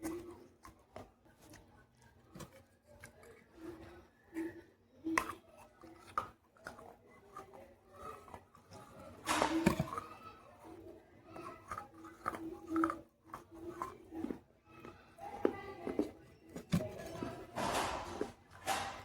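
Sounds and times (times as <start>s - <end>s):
clay pieces being chewed crunching: 0.0s - 19.0s.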